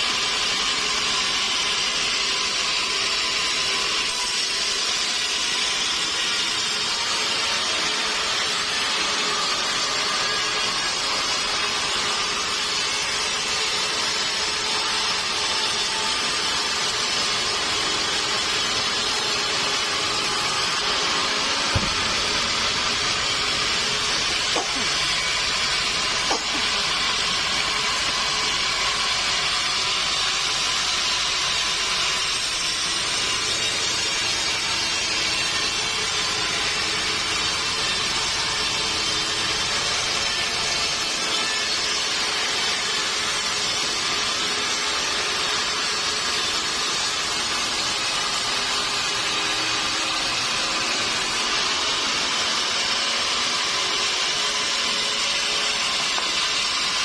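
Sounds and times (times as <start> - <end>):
sawmill saw cutting log: 0.0 - 57.0.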